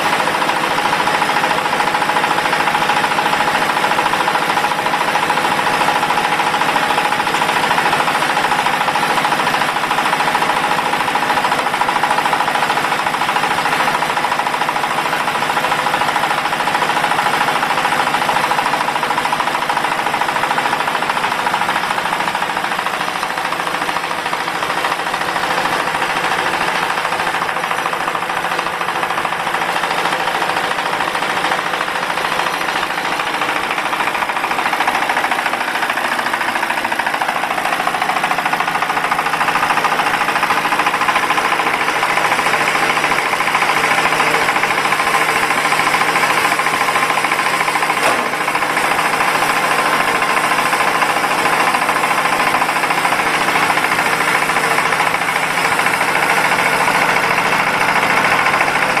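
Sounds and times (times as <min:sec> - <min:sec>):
baler machinery running: 0:00.0 - 0:59.0
diesel engine knocking: 0:00.0 - 0:59.0.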